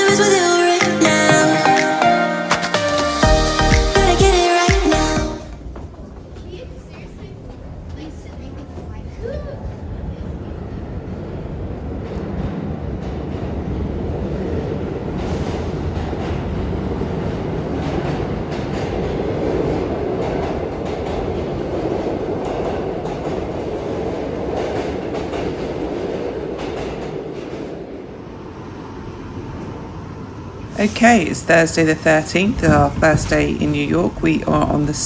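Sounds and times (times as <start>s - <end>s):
subway train rumble: 0.0s - 35.0s.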